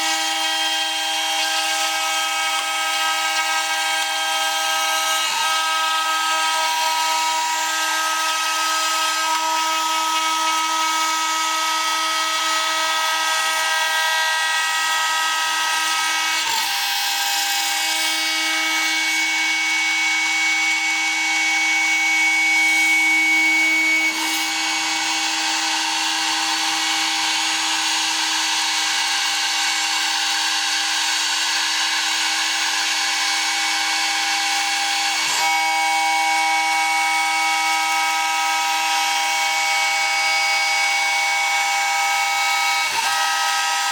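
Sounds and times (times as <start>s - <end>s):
router spindle milling metal: 0.0s - 43.9s.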